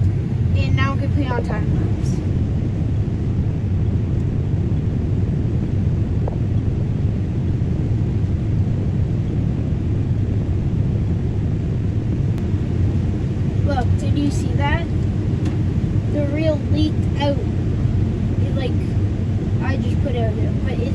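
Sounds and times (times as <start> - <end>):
combine harvester rumbling: 0.0 - 20.9.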